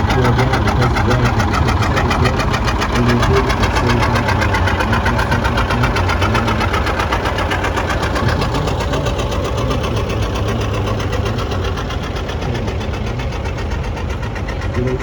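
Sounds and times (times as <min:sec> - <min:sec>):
tractor engine pulsing: 0:00.0 - 0:15.0.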